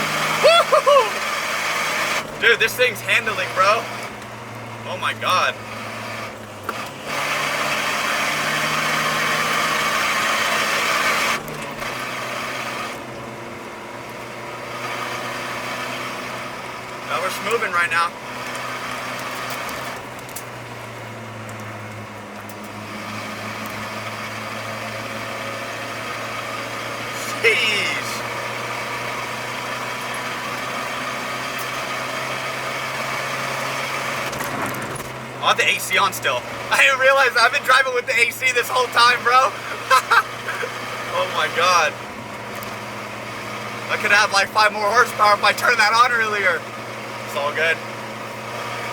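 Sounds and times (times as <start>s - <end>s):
car engine under throttle: 0.0s - 48.9s.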